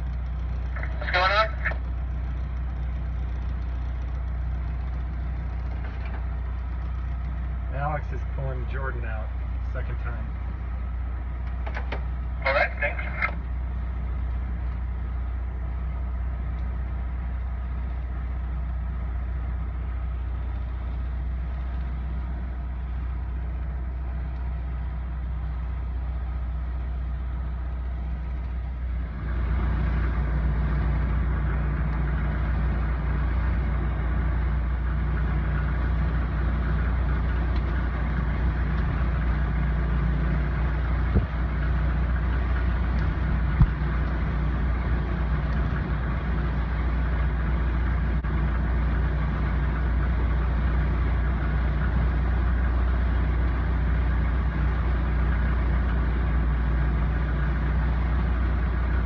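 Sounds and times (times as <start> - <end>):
engines running at low revs: 0.0 - 59.0
loud steady engine drone: 0.0 - 59.0.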